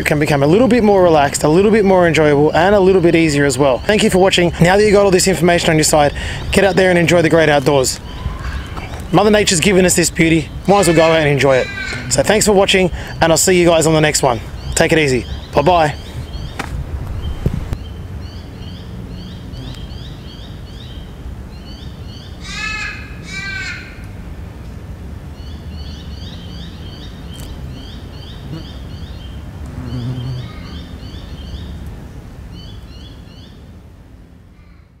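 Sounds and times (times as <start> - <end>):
loud bird calls: 1.9 - 24.0, 25.4 - 31.8.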